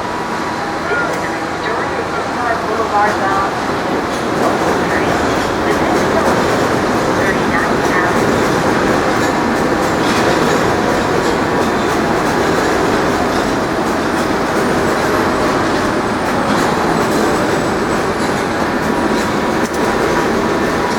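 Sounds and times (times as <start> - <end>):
subway train rumbling: 0.0 - 20.9.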